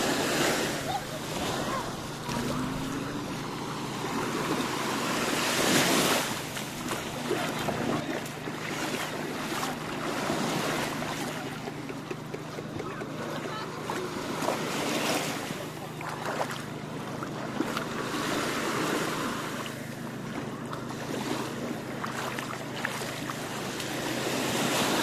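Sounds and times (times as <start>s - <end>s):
small waves washing onto sand: 0.0s - 25.0s
wind: 0.0s - 25.0s.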